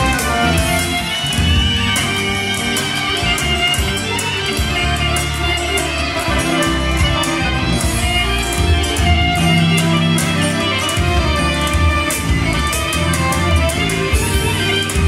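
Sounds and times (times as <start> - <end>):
bass line: 0.0 - 15.0
clarinet leading: 0.0 - 15.0
drum kit beats: 0.0 - 15.0
electric guitar: 0.0 - 15.0
keyboard: 0.0 - 15.0.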